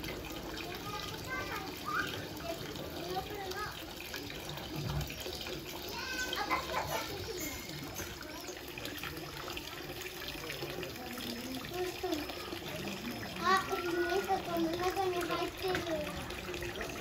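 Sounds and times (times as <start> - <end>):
running water: 0.0 - 17.0
faint background voices: 0.1 - 17.0.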